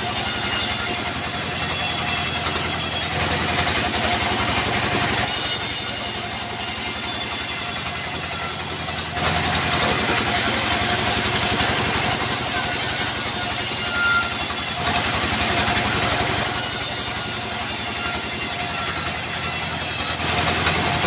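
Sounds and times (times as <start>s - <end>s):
band saw cutting log: 0.0s - 21.0s.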